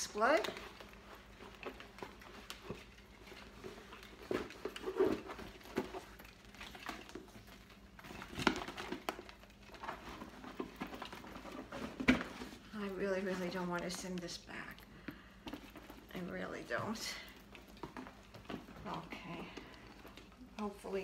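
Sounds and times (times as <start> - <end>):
leather bag rustling and clicking: 0.0 - 21.0.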